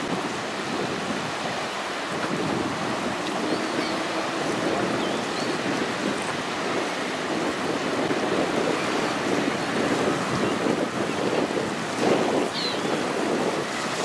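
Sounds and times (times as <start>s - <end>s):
ship bow wave rushing water: 0.0s - 14.0s
wind buffeting microphone: 0.0s - 14.0s.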